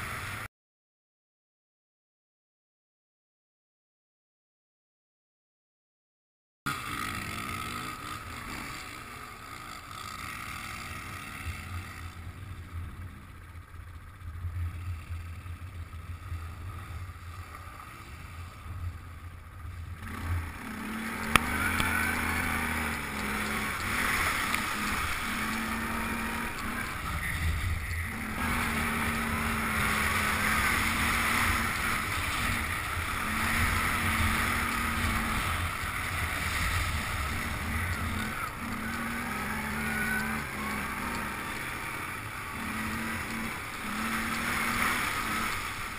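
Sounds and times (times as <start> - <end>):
quad engine running: 0.0 - 0.5, 6.7 - 45.9.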